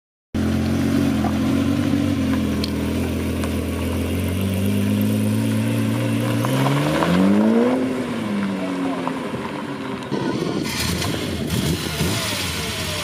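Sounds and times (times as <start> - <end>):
car engine running at low revs: 0.4 - 13.0.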